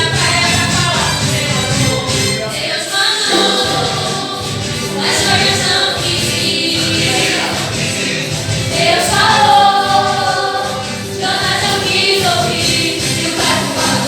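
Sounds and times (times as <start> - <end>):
choir singing: 0.0 - 14.0
instrumental accompaniment: 0.0 - 14.0.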